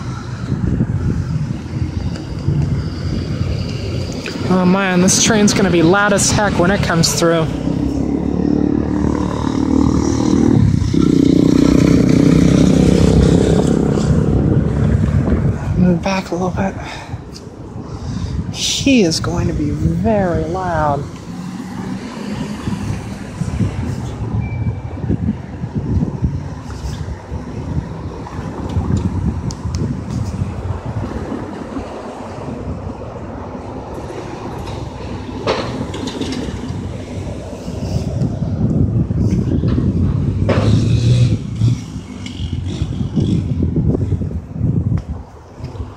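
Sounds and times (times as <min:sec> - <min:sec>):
car crossing railroad crossing: 0:00.0 - 0:16.5, 0:17.1 - 0:44.4
road traffic: 0:00.0 - 0:45.9
wind on microphone: 0:00.0 - 0:45.9.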